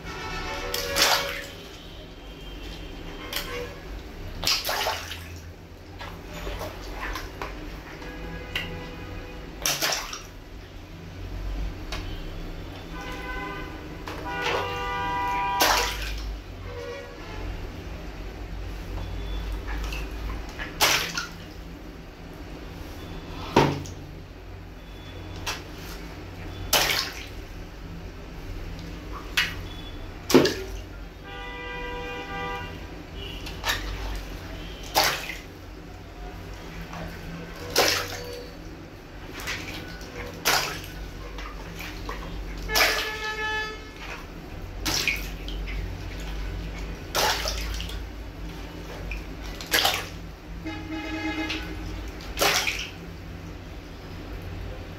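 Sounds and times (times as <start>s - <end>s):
water splashing: 0.0s - 17.0s, 17.7s - 54.9s
low background hum: 0.0s - 54.9s.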